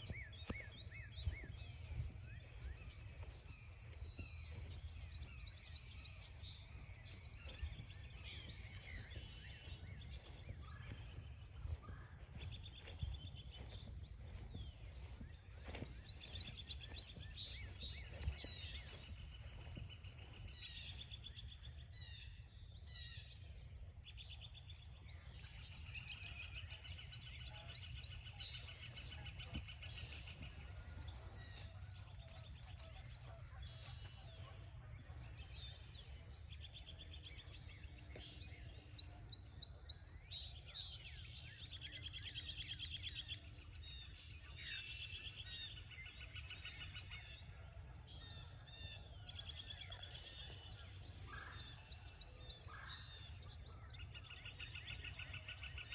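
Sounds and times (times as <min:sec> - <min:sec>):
birds singing and calling: 0:00.0 - 0:55.9.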